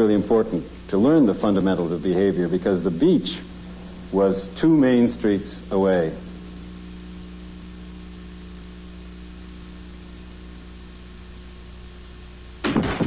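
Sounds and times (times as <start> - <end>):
background hiss: 0.0 - 12.8
low electrical hum: 0.0 - 13.0.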